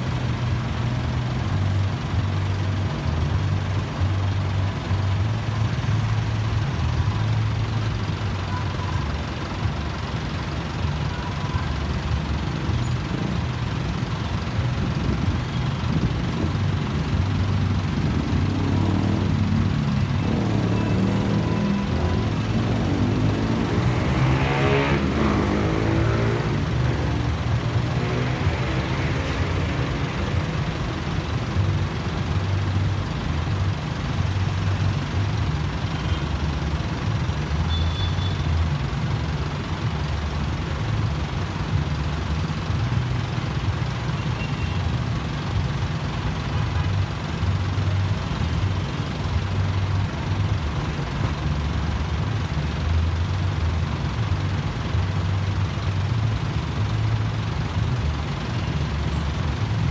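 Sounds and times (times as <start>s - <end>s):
motorcycle and truck engines idling: 0.0s - 59.9s.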